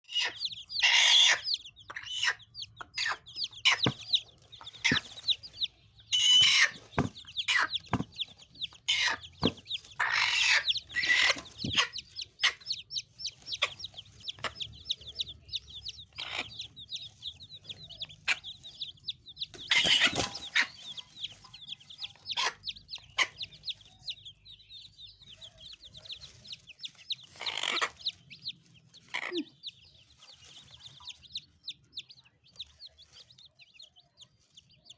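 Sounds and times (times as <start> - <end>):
hen clucking and squawking: 0.0 - 24.3, 25.3 - 31.4
high peeping calls: 0.0 - 34.9.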